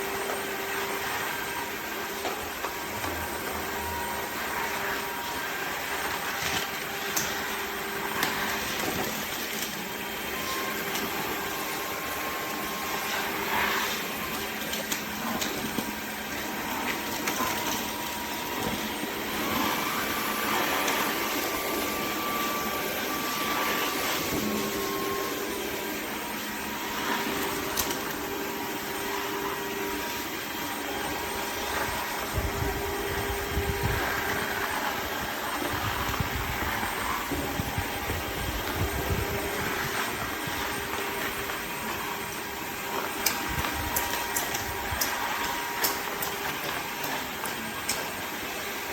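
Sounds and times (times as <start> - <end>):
vacuum motor whir and hiss: 0.0 - 48.9.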